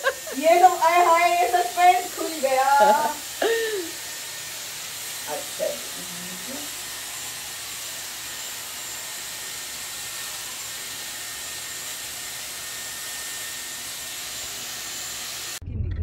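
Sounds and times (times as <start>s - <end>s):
hot-air brush blowing: 0.0s - 15.6s.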